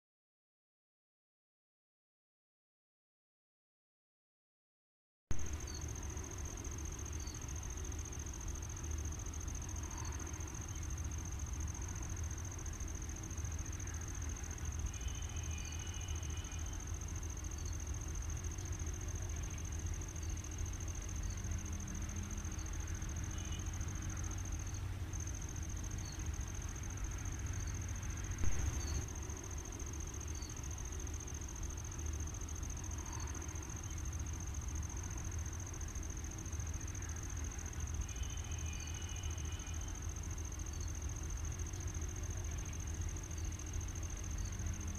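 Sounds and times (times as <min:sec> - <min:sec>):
crickets chirring: 0:05.4 - 0:44.9.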